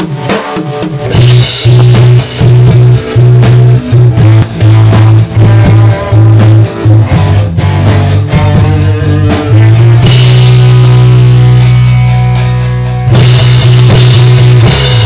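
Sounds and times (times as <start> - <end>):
rock band playing live: 0.0 - 15.0
heavy low guitar riff: 1.1 - 15.0.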